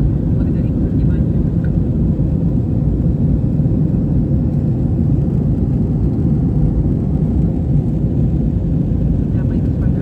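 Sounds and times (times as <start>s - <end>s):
aircraft cabin engine rumble: 0.0s - 10.0s.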